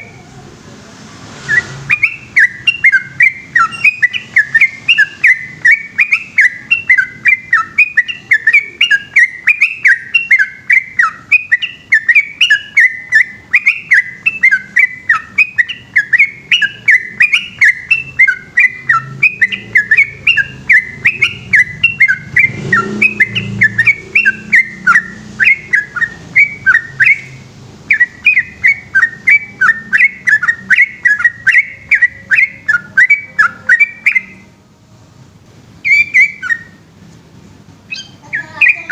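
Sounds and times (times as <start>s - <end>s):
bird singing rapid whistled notes: 1.4s - 34.6s, 35.8s - 36.9s, 37.8s - 38.9s.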